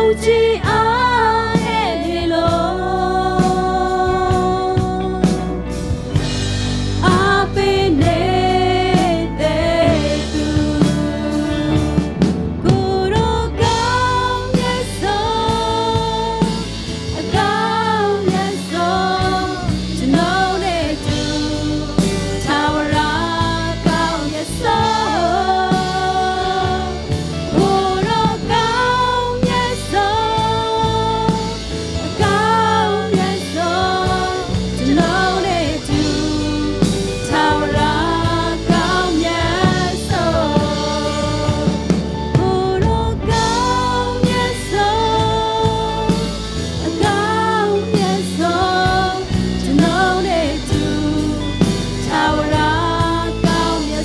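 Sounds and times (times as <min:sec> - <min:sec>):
acoustic guitar: 0:00.0 - 0:54.0
backing singers: 0:00.0 - 0:54.0
electric guitar: 0:00.0 - 0:54.0
keyboard: 0:00.0 - 0:54.0
woman singing lead: 0:00.0 - 0:54.0.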